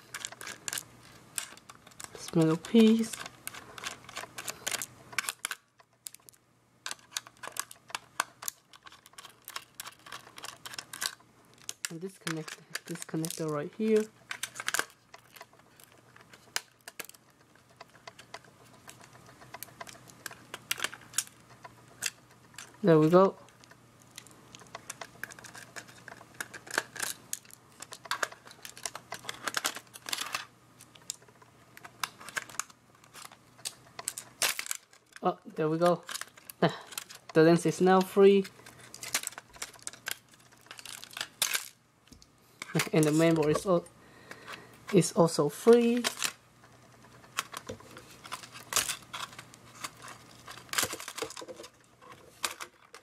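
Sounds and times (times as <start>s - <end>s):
fingers handling parts: 0.0s - 45.0s, 45.6s - 53.0s.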